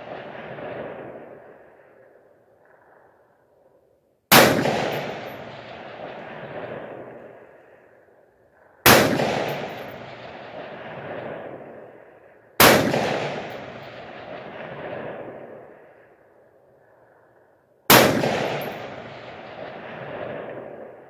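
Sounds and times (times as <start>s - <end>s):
rifle shots with rolling echo: 0.0s - 3.6s, 4.3s - 21.0s.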